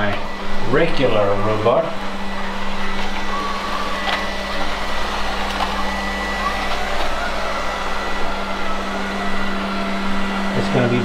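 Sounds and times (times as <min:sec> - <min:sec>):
robot vacuum cleaner running: 0:00.0 - 0:11.0.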